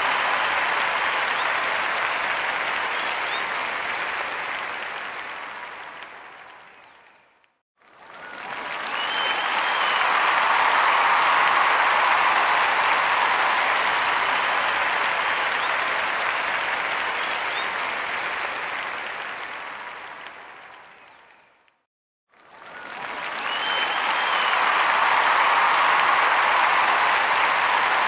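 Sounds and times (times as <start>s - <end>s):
crowd applause: 0.0s - 7.0s, 7.8s - 21.2s, 22.3s - 28.0s.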